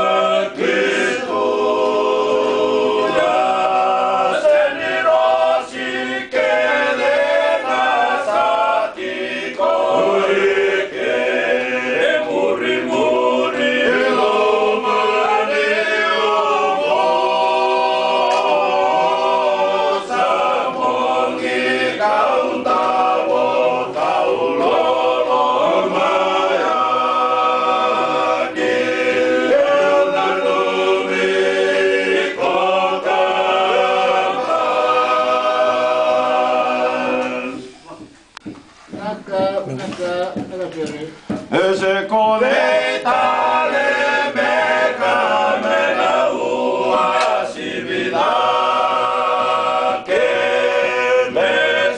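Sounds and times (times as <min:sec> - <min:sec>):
men singing in harmony: 0:00.0 - 0:37.8, 0:41.4 - 0:51.9.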